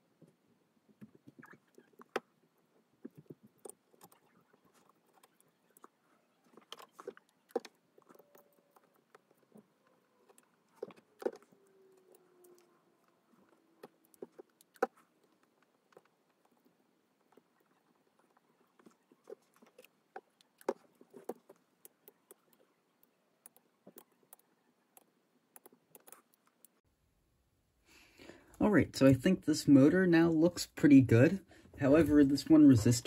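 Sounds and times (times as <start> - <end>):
faint plastic clicks and taps: 0.2 - 26.8.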